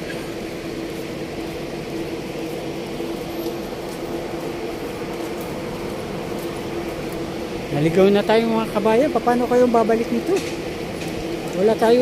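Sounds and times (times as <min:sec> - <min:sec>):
background noise: 0:00.0 - 0:12.0
steady mechanical hum: 0:00.0 - 0:12.0.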